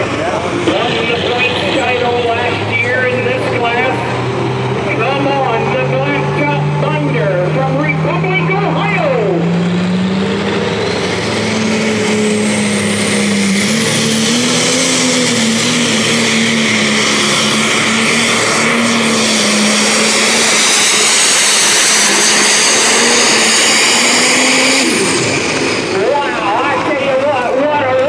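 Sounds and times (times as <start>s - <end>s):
diesel engine running flat out: 0.0s - 28.0s.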